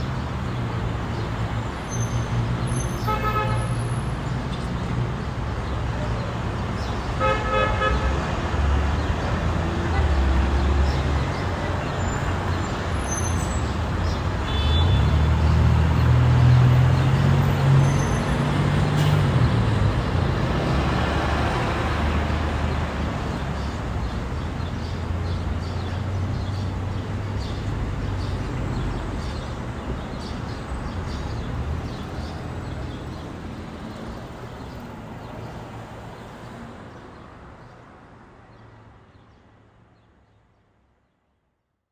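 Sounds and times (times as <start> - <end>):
road noise: 0.0 - 41.0.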